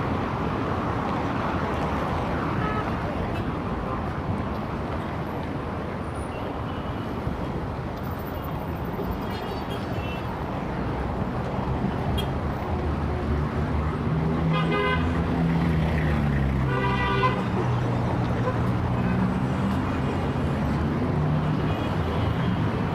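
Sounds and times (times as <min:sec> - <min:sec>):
traffic engines and tyres: 0:00.0 - 0:22.9.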